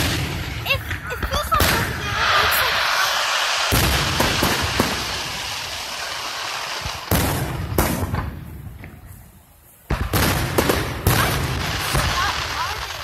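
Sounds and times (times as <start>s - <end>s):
fireworks booming: 0.0s - 13.0s
fireworks crackling hiss: 0.0s - 13.0s.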